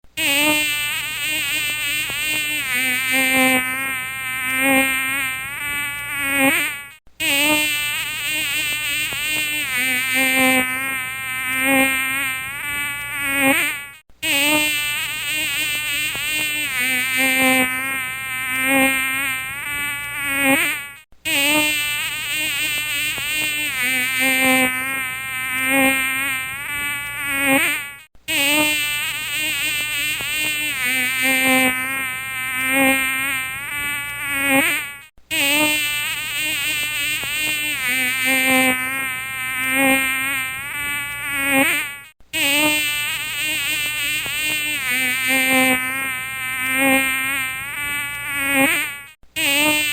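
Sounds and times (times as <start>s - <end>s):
mosquito whine: 0.2s - 49.9s.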